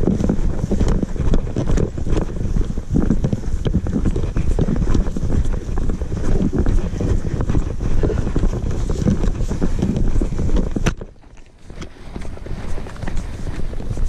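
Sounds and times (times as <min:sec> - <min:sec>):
low rumble of wind: 0:00.0 - 0:14.0
quick footsteps on dirt trail: 0:00.0 - 0:14.0.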